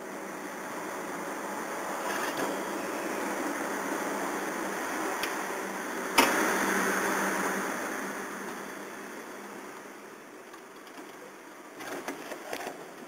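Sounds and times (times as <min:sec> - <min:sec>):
hot-water dispenser humming and hissing: 0:00.0 - 0:13.0.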